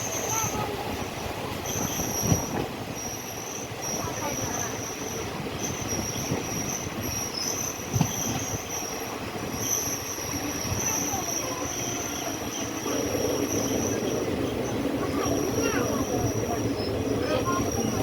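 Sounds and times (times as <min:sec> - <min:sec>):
train wheels rumbling on rails: 0:00.0 - 0:18.0
high wheel squeal: 0:01.6 - 0:18.0.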